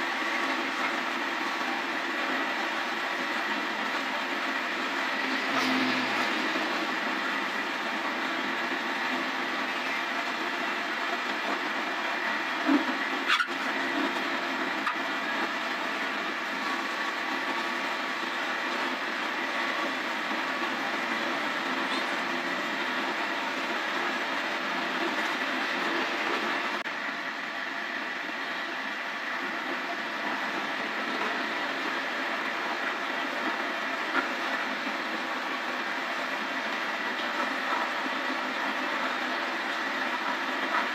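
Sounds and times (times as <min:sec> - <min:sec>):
woodworking lathe running: 0:00.0 - 0:40.9.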